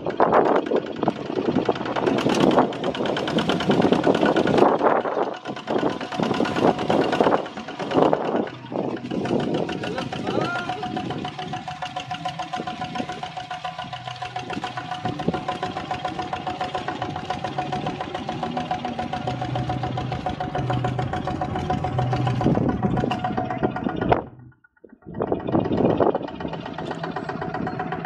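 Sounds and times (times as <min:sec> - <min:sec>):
diesel engine pulsing: 0:00.0 - 0:28.0.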